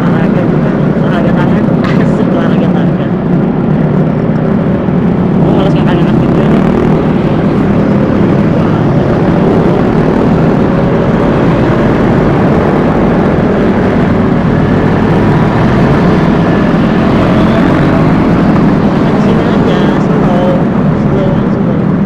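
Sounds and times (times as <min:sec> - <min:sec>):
road noise: 0:00.0 - 0:22.0
scooter engine cruising: 0:00.0 - 0:22.0
wind noise: 0:00.0 - 0:22.0.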